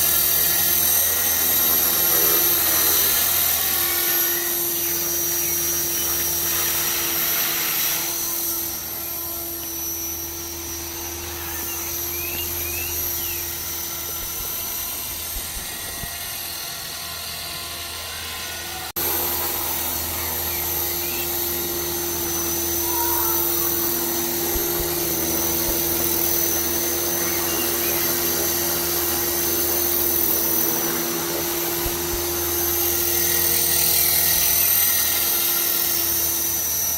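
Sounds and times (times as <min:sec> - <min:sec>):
motor and gears whining: 0:00.0 - 0:36.9
rotors humming: 0:00.0 - 0:36.9.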